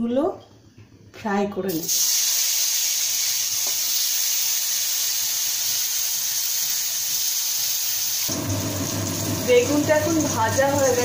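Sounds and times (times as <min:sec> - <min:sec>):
eggplant sizzling in hot oil: 0:01.7 - 0:11.0.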